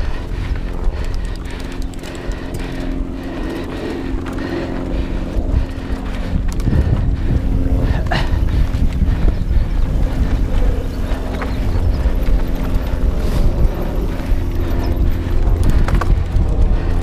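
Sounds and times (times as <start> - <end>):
bike chain and frame rattling: 0.0 - 17.0
bike tyres on dirt: 0.0 - 17.0
wind on microphone: 0.0 - 17.0.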